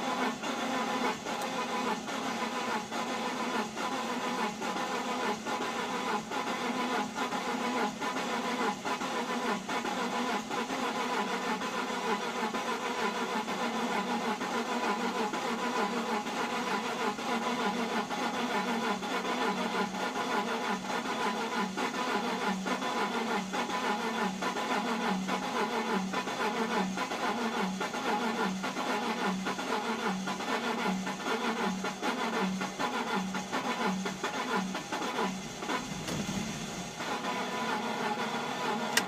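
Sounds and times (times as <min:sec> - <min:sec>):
starter cranking engine: 0:00.0 - 0:39.0.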